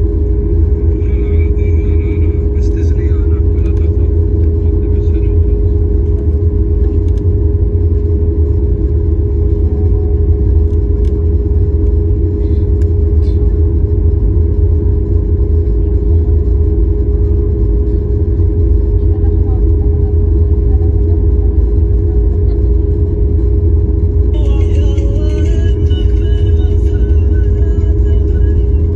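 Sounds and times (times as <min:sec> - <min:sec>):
constant cabin hum: 0:00.0 - 0:28.9
jet engines deep rumble: 0:00.0 - 0:28.9.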